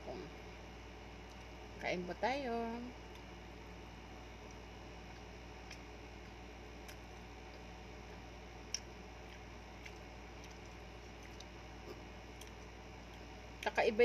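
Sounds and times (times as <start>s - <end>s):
steady low hum: 0.0s - 14.0s
soft chewing and mouth sounds: 1.1s - 1.8s, 3.0s - 13.8s.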